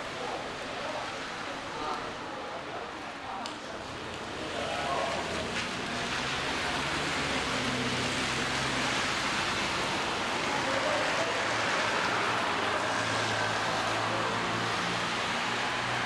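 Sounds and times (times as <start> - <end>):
rain falling on a street: 0.0 - 16.0.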